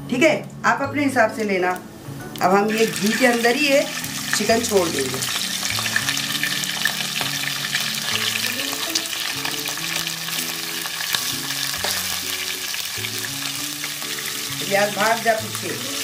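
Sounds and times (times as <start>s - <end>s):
chicken sizzling in oil: 2.2s - 16.0s.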